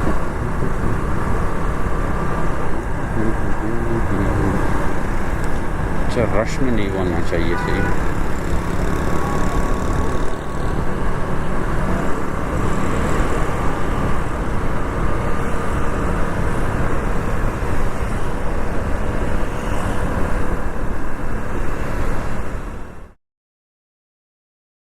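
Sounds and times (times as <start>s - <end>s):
wind rushing over microphone: 0.0s - 7.2s, 7.9s - 23.0s
motorcycle engine: 0.0s - 22.9s.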